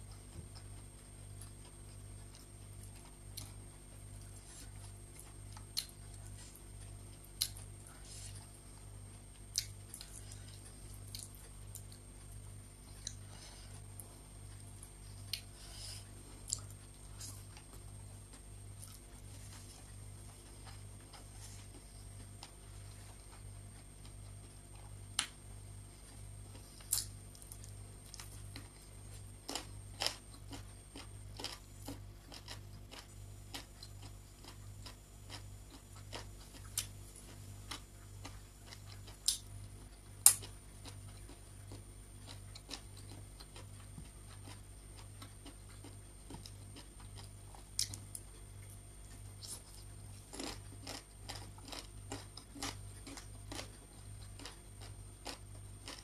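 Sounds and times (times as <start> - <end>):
low pulsing hum: 0.0 - 56.0.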